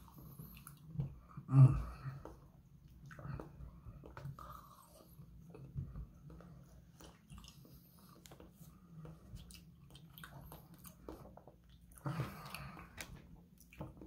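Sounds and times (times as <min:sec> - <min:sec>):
wet chewing: 0:02.2 - 0:14.0.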